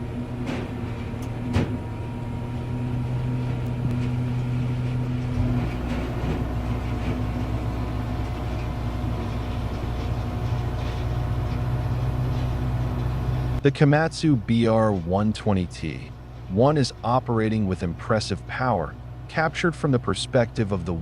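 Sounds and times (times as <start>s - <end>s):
diesel machinery running: 0.0s - 21.0s.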